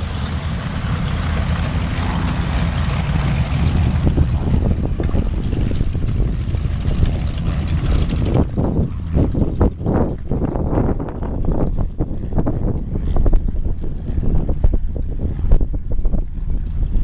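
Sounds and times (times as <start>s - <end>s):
piston aircraft engines rumbling: 0.0s - 17.0s.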